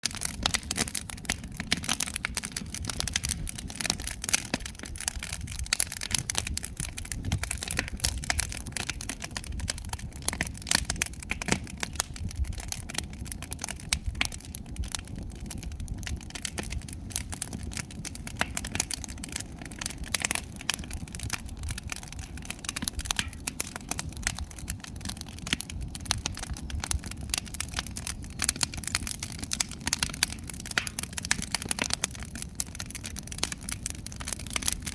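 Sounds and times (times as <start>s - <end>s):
firewood crackling and popping: 0.0s - 34.9s.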